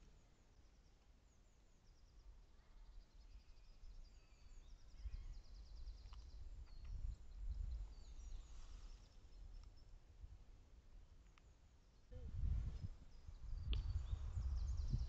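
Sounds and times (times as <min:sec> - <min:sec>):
small birds chirping: 0:00.0 - 0:10.0, 0:11.2 - 0:15.0.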